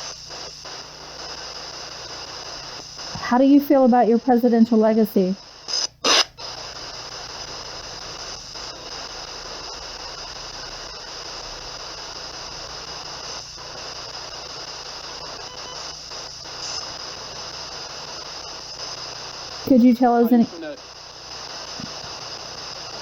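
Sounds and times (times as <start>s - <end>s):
faint hum: 0.0s - 23.0s
radio static hiss: 0.0s - 23.0s.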